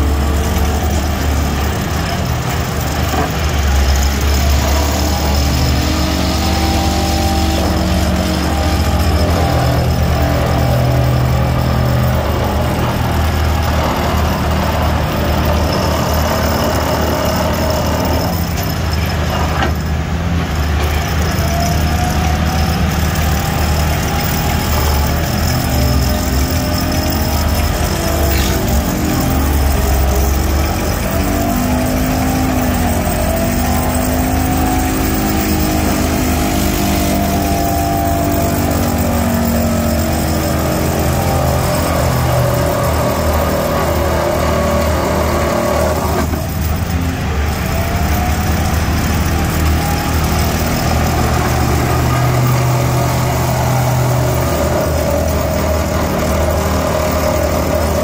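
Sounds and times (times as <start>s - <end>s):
excavator engine under load: 0.0s - 58.0s
vibratory pile hammer drone: 0.0s - 58.0s.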